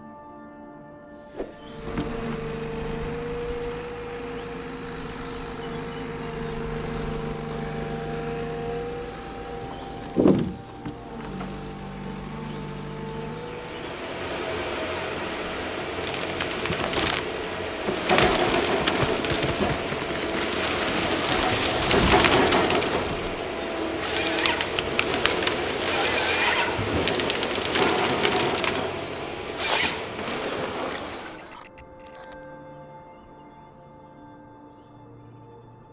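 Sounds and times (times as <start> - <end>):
harvester engine and hydraulics: 1.3 - 32.4
wood cracking and snapping: 1.4 - 32.4.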